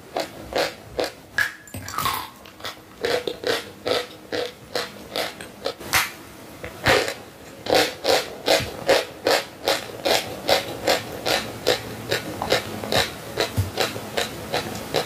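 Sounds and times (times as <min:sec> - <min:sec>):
crunchy chewing of chalk: 0:02.0 - 0:06.0, 0:06.8 - 0:15.0.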